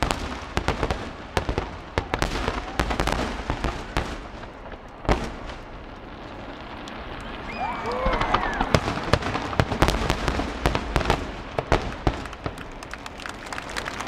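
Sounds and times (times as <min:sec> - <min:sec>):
fireworks crackling and popping: 0:00.0 - 0:14.0
loud fireworks boom: 0:00.0 - 0:14.0.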